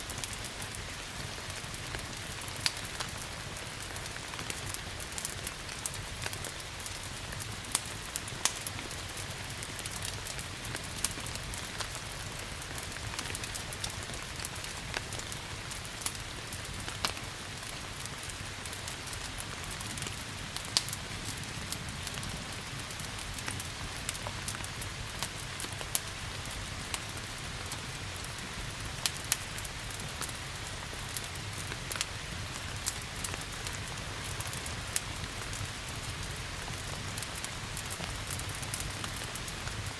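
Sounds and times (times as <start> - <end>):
rain hiss: 0.0 - 39.9
wood fire crackling: 0.0 - 39.9.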